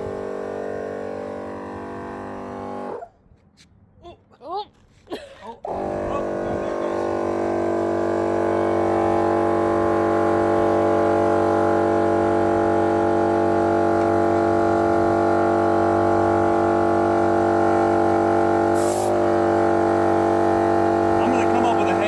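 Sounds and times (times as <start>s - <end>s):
air compressor droning: 0.0s - 3.1s, 5.6s - 22.0s.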